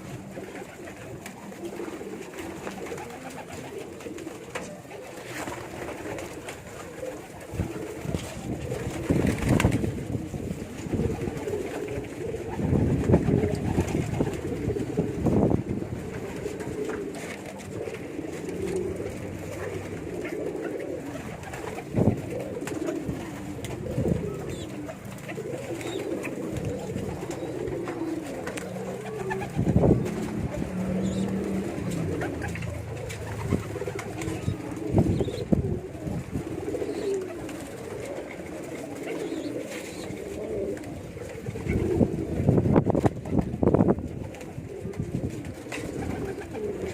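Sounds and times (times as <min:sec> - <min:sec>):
pigeons cooing: 0:00.0 - 0:46.9.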